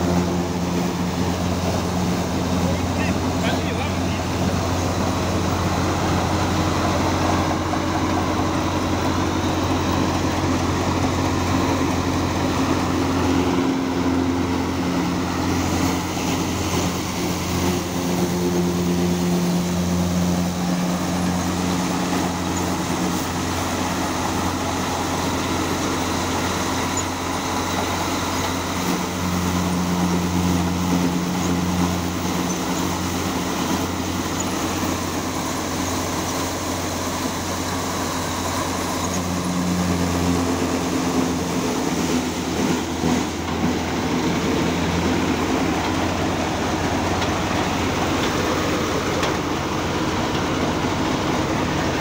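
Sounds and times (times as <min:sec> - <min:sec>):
threshing machine drone: 0:00.0 - 0:52.0
tractor diesel engine under load: 0:00.0 - 0:52.0.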